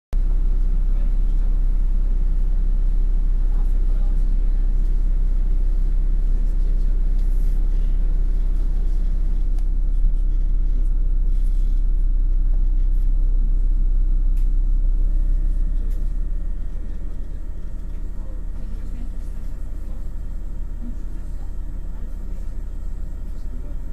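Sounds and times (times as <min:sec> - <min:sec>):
bus engine rumbling: 0:00.2 - 0:23.9.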